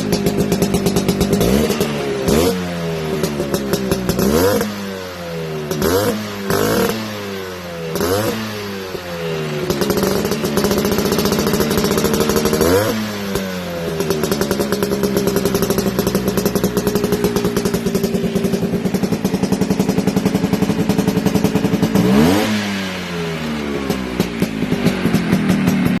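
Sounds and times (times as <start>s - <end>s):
two-stroke scooter engine revving: 0.0s - 26.0s.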